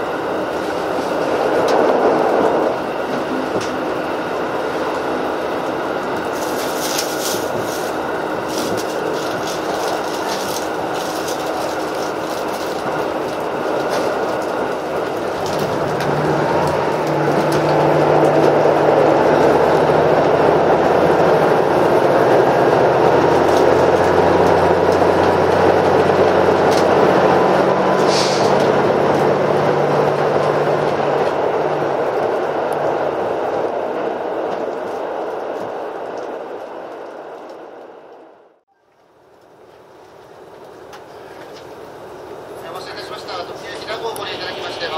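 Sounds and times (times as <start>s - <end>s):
wheels clicking over rail joints: 0.0s - 38.3s, 38.9s - 44.9s
train rumble on bridge: 0.0s - 38.6s, 39.2s - 44.9s
low diesel engine hum: 0.0s - 44.9s.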